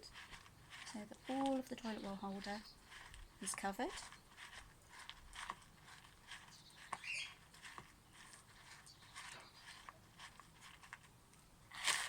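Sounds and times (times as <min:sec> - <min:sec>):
bird seed pattering in a tub: 0:00.0 - 0:12.0.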